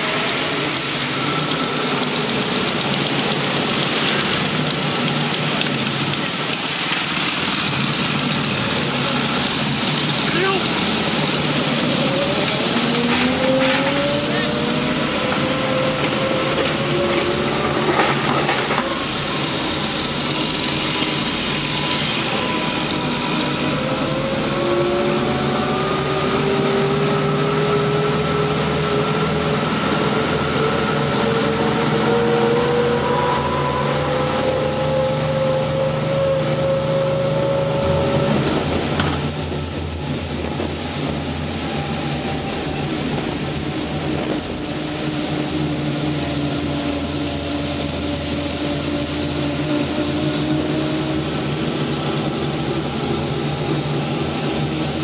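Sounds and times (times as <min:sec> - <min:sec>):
vehicle engine with rising whine: 0:00.0 - 0:55.0.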